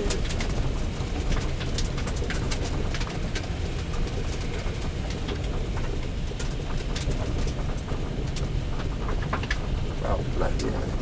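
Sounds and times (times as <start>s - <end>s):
car rolling rumble: 0.0s - 11.0s.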